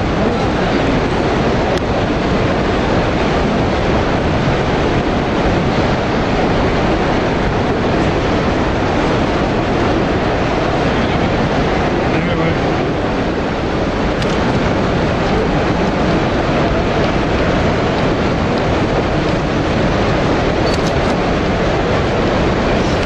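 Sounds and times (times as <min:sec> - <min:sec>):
crowded exhibition hall noise: 0:00.0 - 0:23.0.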